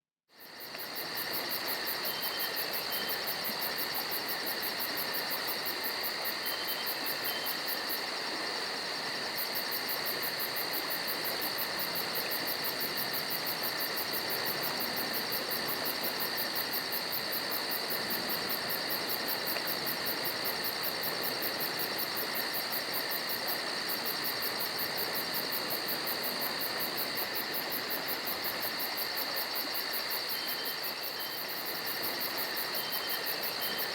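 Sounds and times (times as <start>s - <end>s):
crickets trilling: 0.4s - 33.9s.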